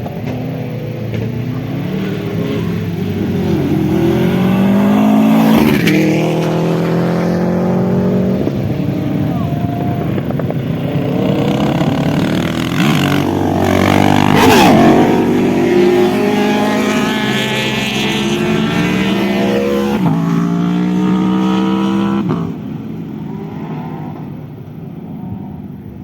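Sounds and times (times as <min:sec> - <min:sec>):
racing motorcycle passing by: 0:00.0 - 0:26.0.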